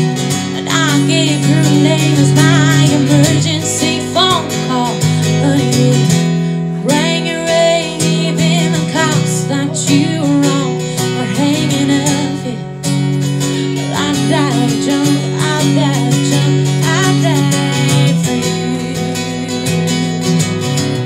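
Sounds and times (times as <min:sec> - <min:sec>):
strummed acoustic guitar: 0:00.0 - 0:21.0
woman singing: 0:00.1 - 0:20.4.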